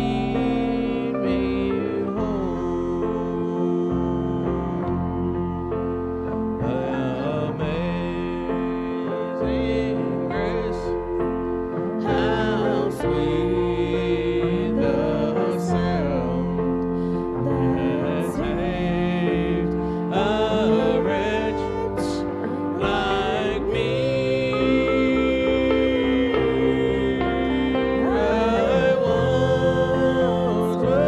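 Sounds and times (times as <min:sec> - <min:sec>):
person singing gospel: 0:00.0 - 0:31.0
sustained keyboard chords: 0:00.0 - 0:31.0.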